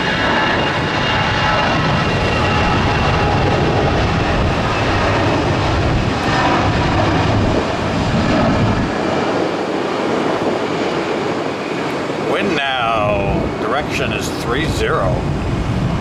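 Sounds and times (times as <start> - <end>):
heavy low rumble: 0.0 - 16.0
jet engine roar: 0.0 - 16.0.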